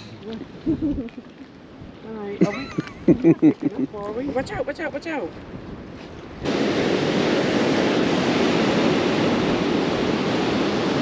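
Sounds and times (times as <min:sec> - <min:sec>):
wind: 0:00.0 - 0:11.0
sea surf rushing: 0:01.6 - 0:11.0.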